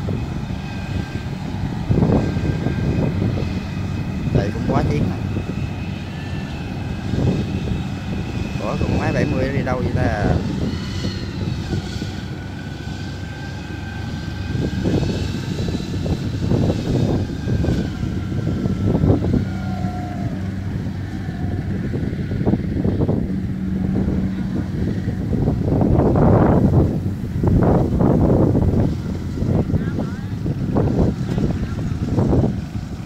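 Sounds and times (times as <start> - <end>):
tracked carrier engine running: 0.0 - 33.0.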